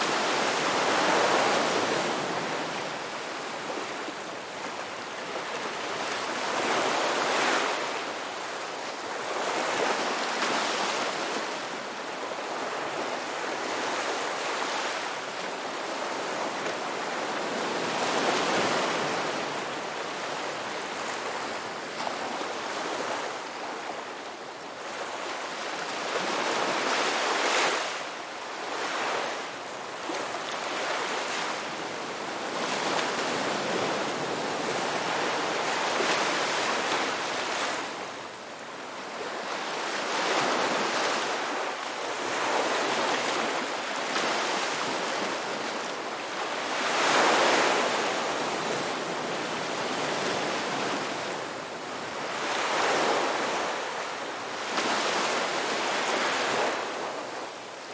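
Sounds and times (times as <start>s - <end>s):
ocean waves breaking on shore: 0.0s - 57.9s.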